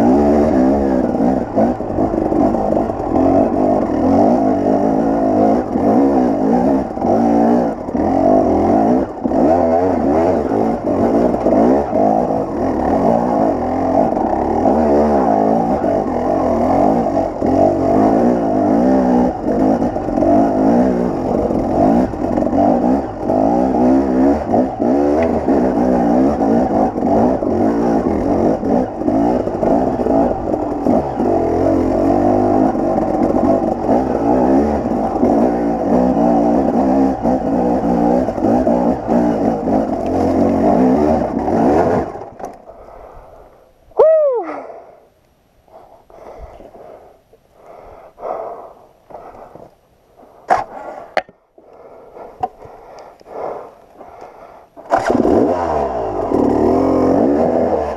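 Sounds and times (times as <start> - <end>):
dirt bike engine revving: 0.0 - 43.2, 51.7 - 57.9.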